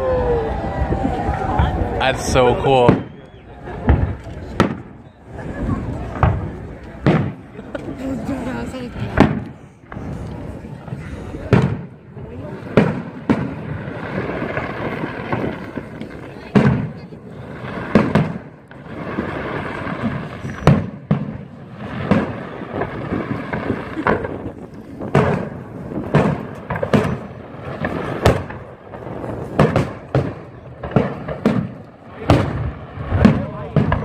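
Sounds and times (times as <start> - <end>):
firework shells booming: 0.5 - 34.0.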